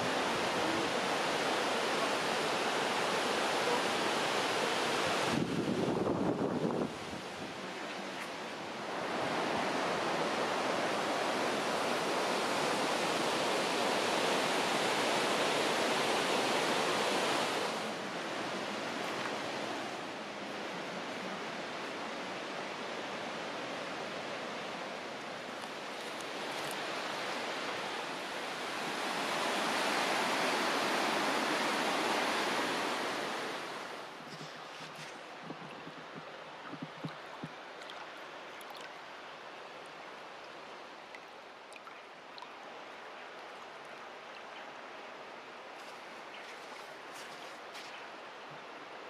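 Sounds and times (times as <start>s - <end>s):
river water rushing: 0.0s - 49.0s.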